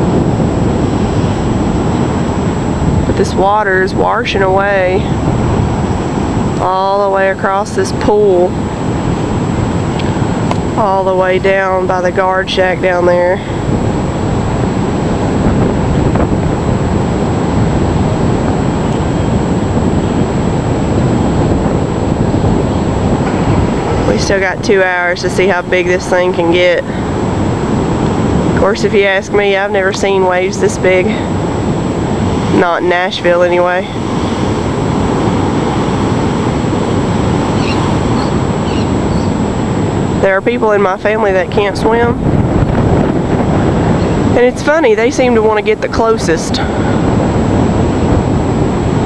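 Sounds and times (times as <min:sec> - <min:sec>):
heavy surf breaking: 0:00.0 - 0:49.0
wind buffeting microphone: 0:00.0 - 0:49.0.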